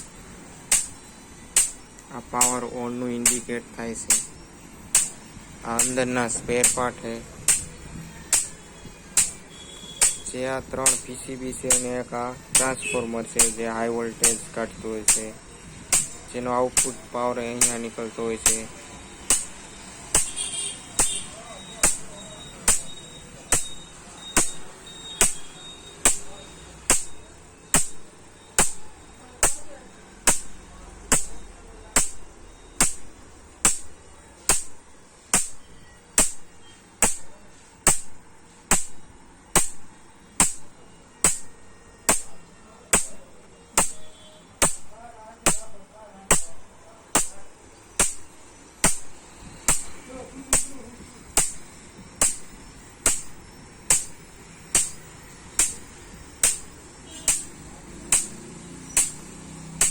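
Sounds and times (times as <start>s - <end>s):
electric fence snapping: 0.7s - 59.9s.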